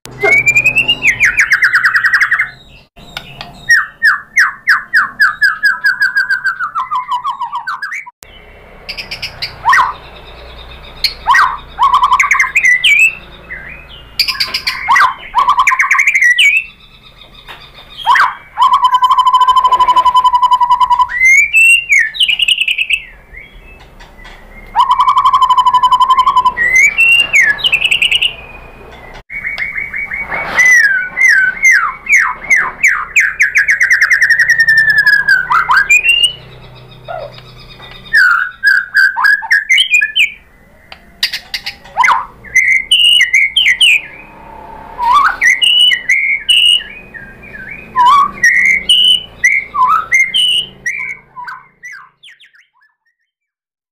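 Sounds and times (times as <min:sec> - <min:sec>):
songbird singing: 0:00.1 - 0:53.3.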